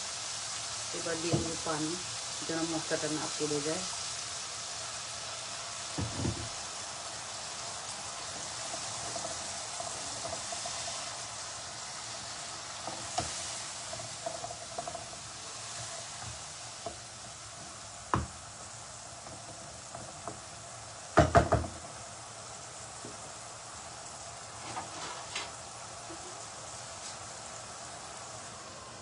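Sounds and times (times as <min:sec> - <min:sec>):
spice paste sizzling in a pan: 0:00.0 - 0:29.0.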